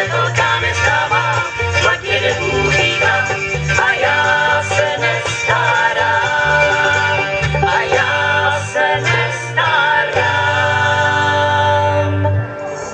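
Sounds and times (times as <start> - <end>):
live country bluegrass band: 0.0 - 12.9
people singing: 0.0 - 12.9.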